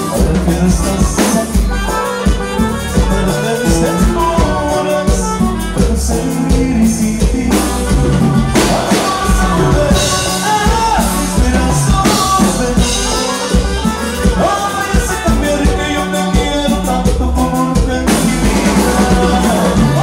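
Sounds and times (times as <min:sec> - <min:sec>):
band dance music with singing: 0:00.0 - 0:20.0.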